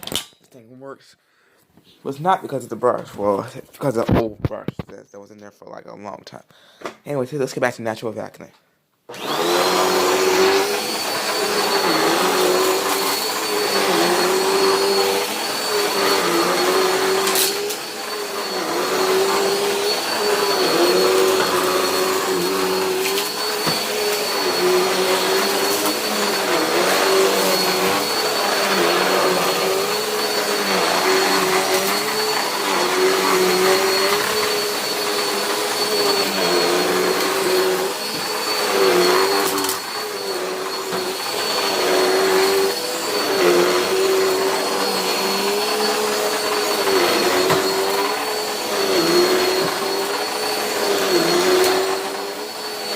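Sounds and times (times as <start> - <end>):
vacuum cleaner on carpet: 9.1 - 52.9.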